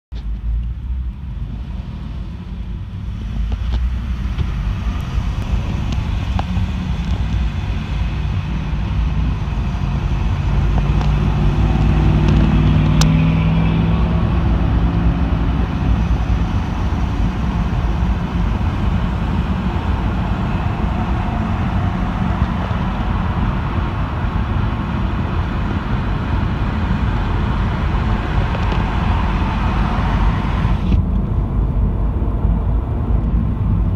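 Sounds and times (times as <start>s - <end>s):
road noise inside car: 0.1s - 33.9s
car engine accelerating: 0.2s - 33.9s.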